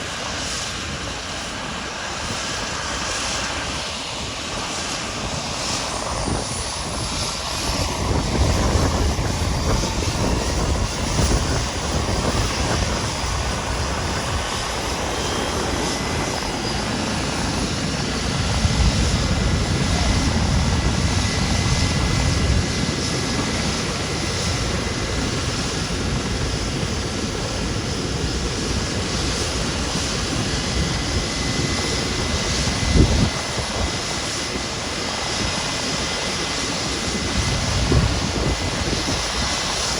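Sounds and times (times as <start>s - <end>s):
helicopter turbine and rotor noise: 0.0s - 39.9s.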